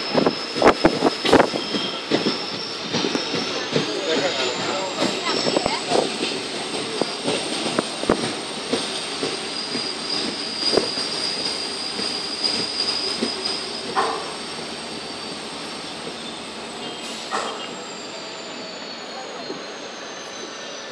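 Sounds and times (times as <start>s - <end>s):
train clanks and knocks: 0.0s - 20.9s
wheel and brake squeal: 0.0s - 20.9s.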